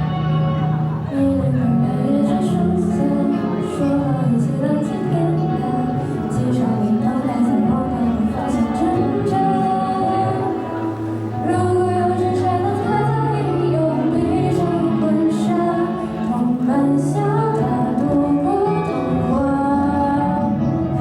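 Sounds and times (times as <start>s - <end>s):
instrumental accompaniment: 0.0s - 21.0s
woman singing: 1.0s - 21.0s.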